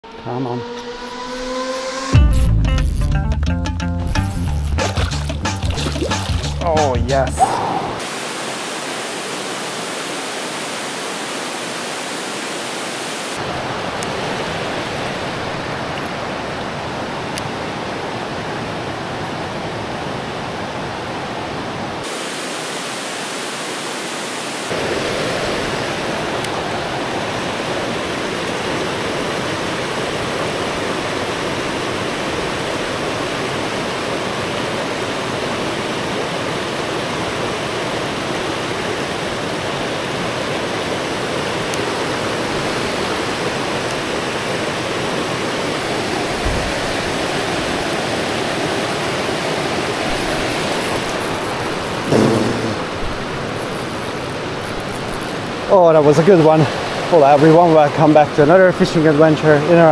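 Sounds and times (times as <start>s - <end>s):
river water rushing: 4.9s - 6.5s, 7.4s - 59.9s.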